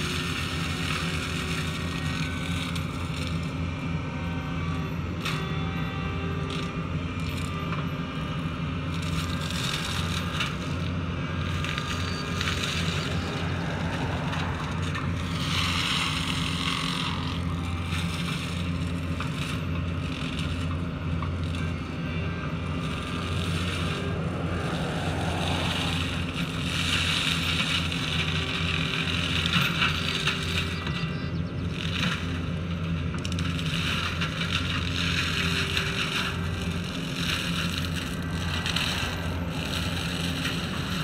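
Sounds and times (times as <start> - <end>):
excavator diesel engine running: 0.0 - 41.0
mulcher grinding brush: 0.0 - 41.0.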